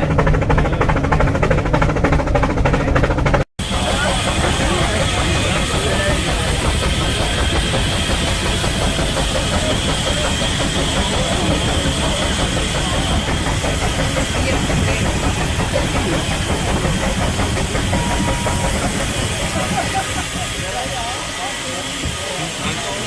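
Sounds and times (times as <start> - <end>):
steam locomotive puffing: 0.0 - 23.0
steam hissing: 2.6 - 23.0.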